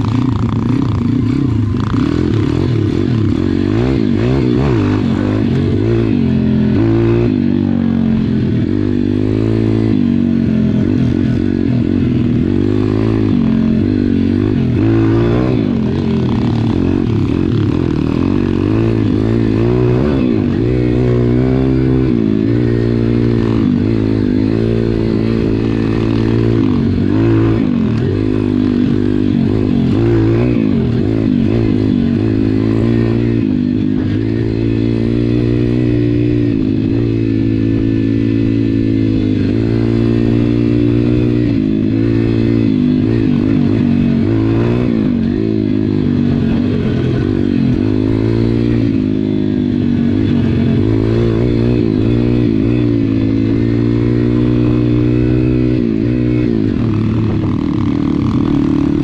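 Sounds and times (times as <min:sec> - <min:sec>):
motorbike engines revving: 0:00.0 - 0:59.0.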